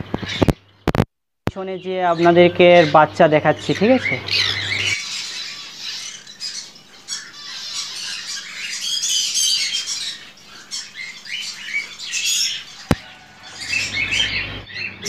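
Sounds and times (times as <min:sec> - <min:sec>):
parrots squawking and chirping: 0:00.0 - 0:00.7, 0:01.8 - 0:15.0.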